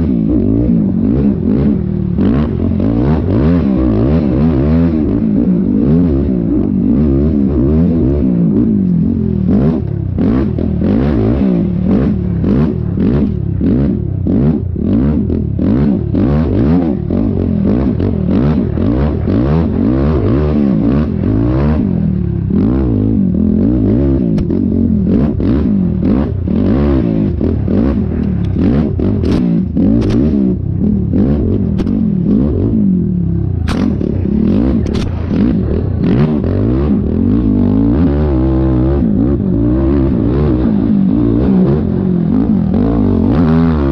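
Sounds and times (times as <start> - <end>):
quad engine revving: 0.0 - 43.9.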